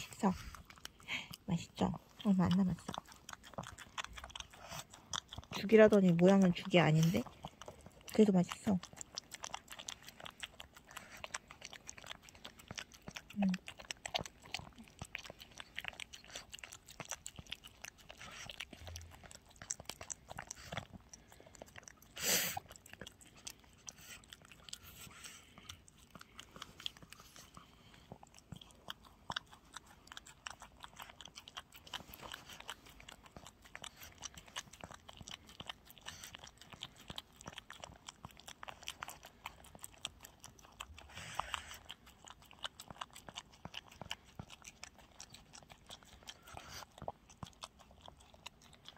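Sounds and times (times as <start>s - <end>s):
dog eating wet food: 0.0s - 48.9s
wet smacking and licking: 0.0s - 48.9s.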